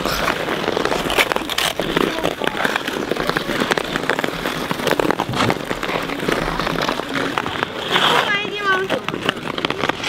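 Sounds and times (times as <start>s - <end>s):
ice skates scraping ice: 0.0s - 10.0s.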